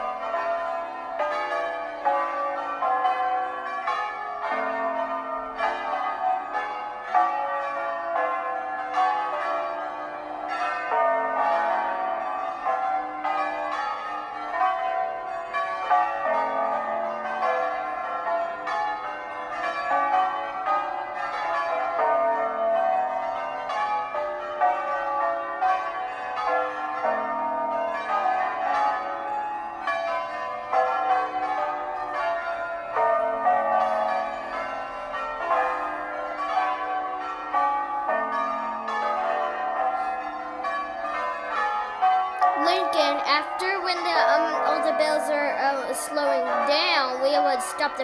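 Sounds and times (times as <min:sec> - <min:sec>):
tower bells ringing: 0:00.0 - 0:48.0.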